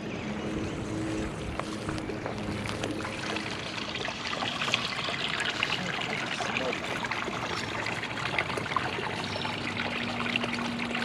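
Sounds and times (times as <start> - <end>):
water trickling and splashing: 0.4 - 11.0.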